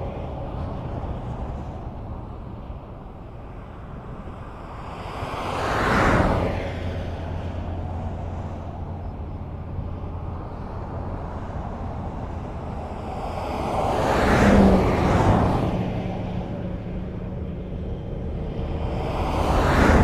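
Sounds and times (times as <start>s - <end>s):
vehicle passing by: 0.0s - 20.0s.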